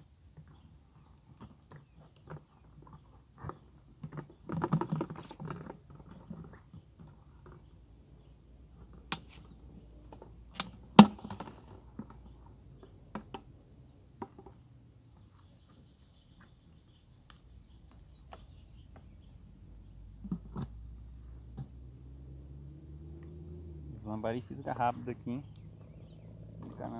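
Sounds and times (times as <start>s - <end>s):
insects chirping in a high trill: 0.0s - 26.9s.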